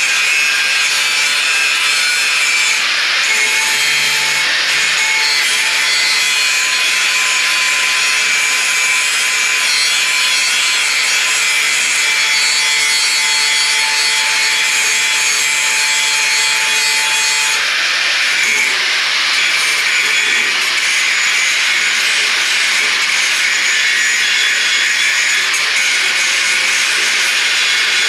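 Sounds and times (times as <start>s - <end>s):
power tool cutting steel: 0.0s - 28.0s.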